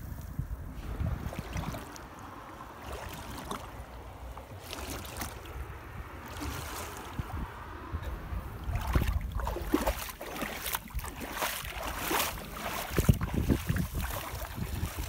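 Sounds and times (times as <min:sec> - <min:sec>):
wind rumble on microphone: 0:00.0 - 0:15.0
canoe paddle splashing in water: 0:00.8 - 0:15.0.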